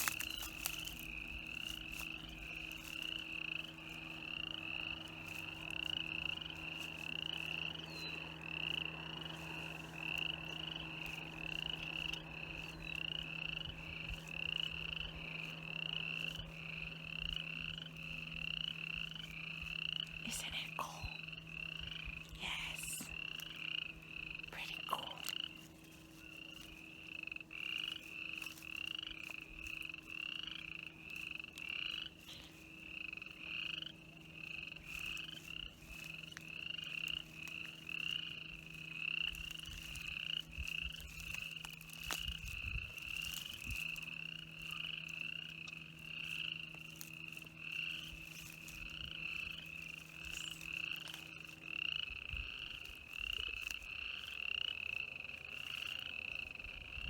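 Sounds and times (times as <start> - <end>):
frog calling: 0.0 - 57.0
steady low hum: 0.0 - 57.0.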